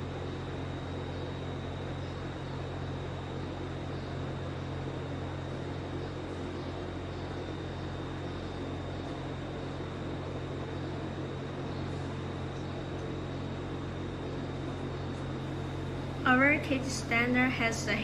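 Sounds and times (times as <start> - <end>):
low mechanical hum: 0.0 - 18.0
thin high whine: 0.0 - 18.0.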